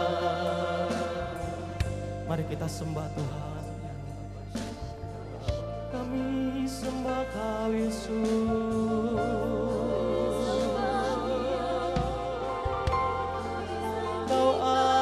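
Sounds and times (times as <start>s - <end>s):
worship band playing slow song: 0.0s - 15.0s.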